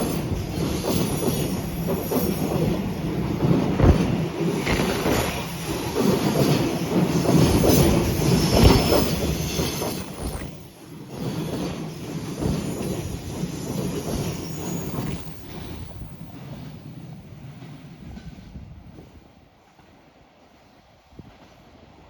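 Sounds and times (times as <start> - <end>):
train wheels rumbling and clacking: 0.0 - 20.0.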